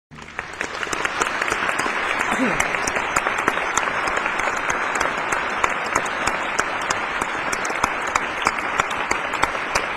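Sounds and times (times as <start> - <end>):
crowd applauding: 0.1 - 9.9.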